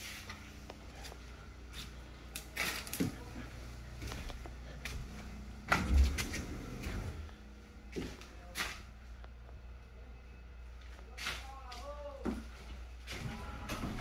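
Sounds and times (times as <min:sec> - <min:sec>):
footsteps: 0:00.0 - 0:09.6, 0:10.8 - 0:14.0.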